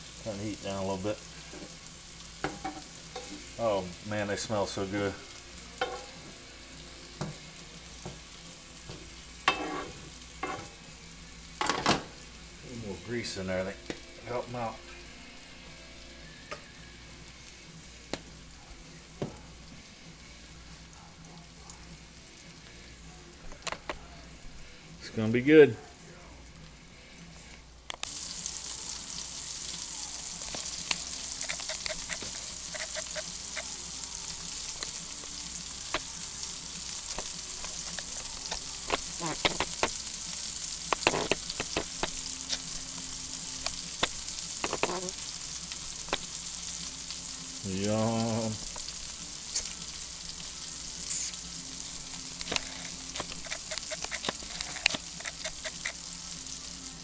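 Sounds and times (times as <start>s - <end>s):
meatballs sizzling in grease: 0.0s - 57.0s.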